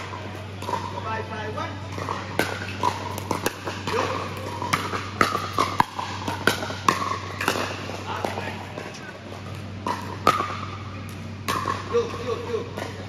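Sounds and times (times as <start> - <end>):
steady low hum: 0.0 - 13.0
paddles hitting plastic ball: 1.9 - 13.0.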